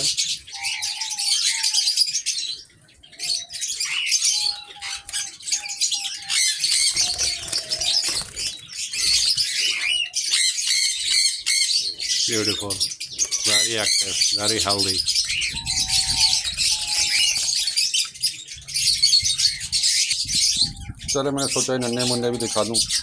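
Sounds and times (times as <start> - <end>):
doves cooing: 0.0 - 23.0
small birds chirping: 0.0 - 23.0.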